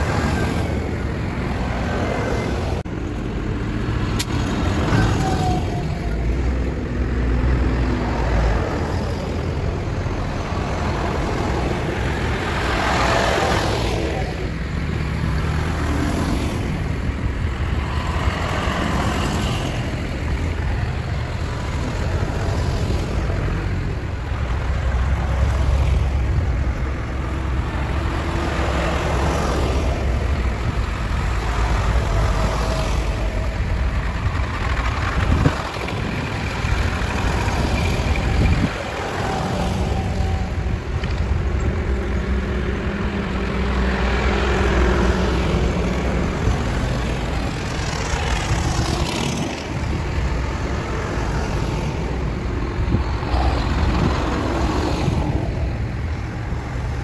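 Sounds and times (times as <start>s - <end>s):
tractors driving past: 0.0s - 57.0s.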